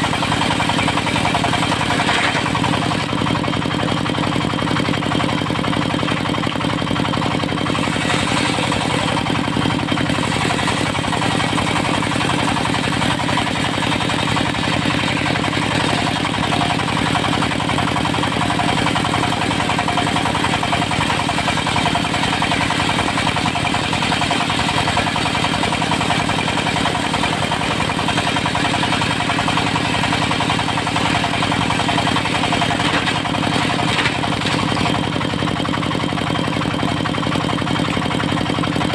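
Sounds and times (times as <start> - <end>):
sawmill diesel engine running: 0.0 - 38.9.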